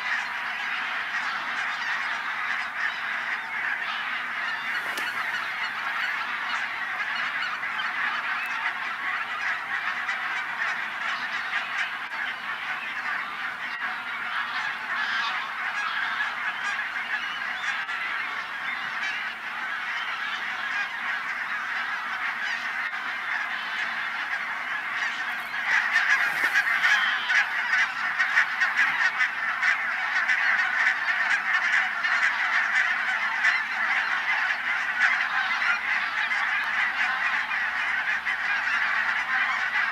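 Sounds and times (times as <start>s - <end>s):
flock of birds calling: 0.0s - 39.9s.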